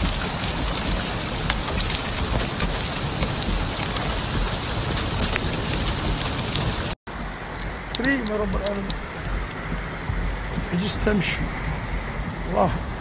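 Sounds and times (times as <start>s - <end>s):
hailstones ticking: 0.0s - 13.0s
heavy rain and hail: 0.0s - 13.0s.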